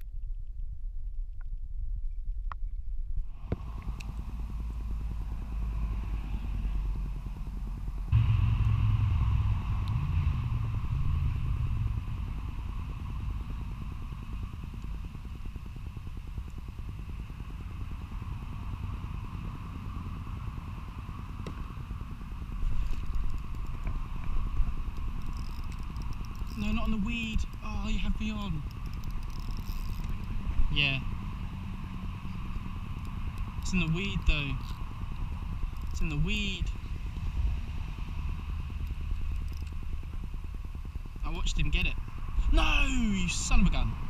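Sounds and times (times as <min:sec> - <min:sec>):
wind buffeting microphone: 0:00.1 - 0:44.0.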